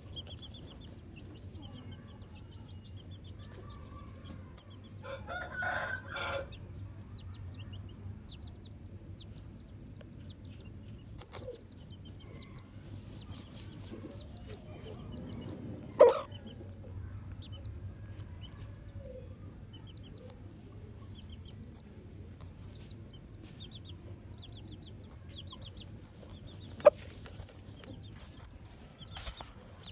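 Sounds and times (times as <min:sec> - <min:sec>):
chicken clucking: 0:00.0 - 0:29.9
small birds chirping: 0:00.0 - 0:29.9.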